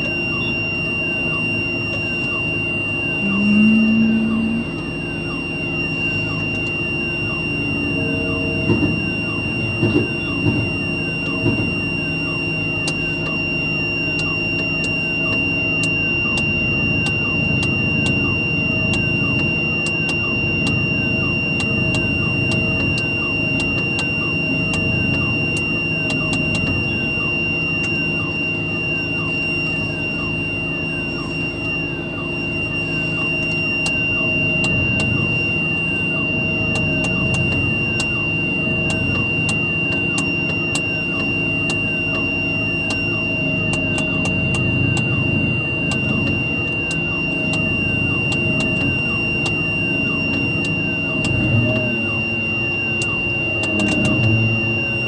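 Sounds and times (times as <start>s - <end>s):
crane engine running: 0.0s - 55.0s
high-pitched electronic tone: 0.0s - 55.0s.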